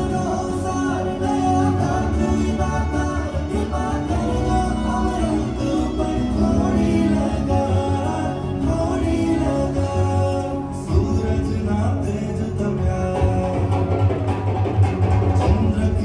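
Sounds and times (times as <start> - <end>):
sung melody with instruments: 0.0 - 16.0.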